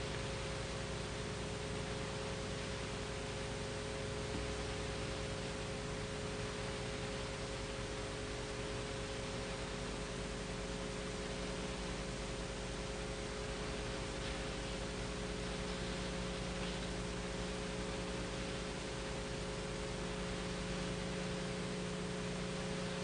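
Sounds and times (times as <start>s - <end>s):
faint electrical hum: 0.0s - 23.0s
steady tape hiss: 0.0s - 23.0s.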